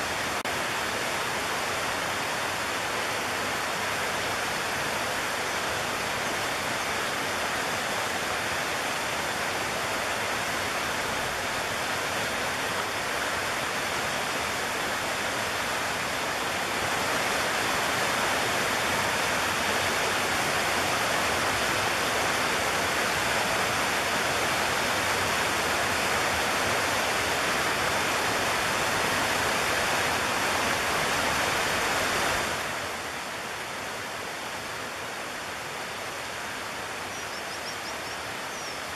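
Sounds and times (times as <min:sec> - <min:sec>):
stream rushing over stones: 0:00.0 - 0:38.9.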